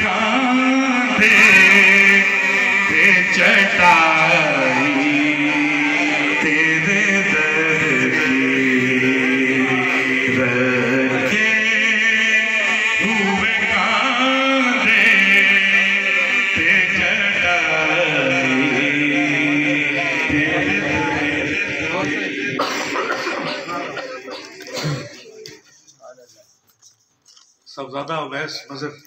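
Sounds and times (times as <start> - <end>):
men singing devotional chant: 0.0 - 25.0.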